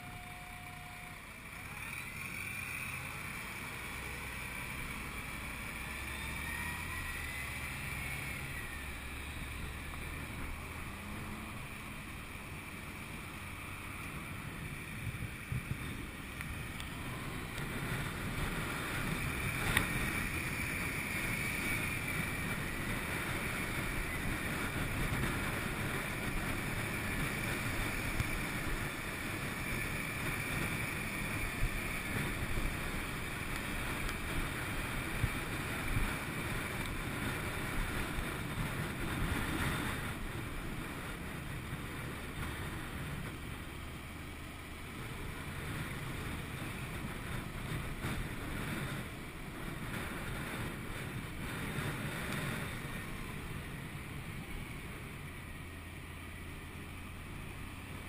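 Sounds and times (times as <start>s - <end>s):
motorcycle engine running: 0.0s - 58.0s
town traffic: 0.0s - 58.0s
wind rush on helmet: 1.4s - 58.0s.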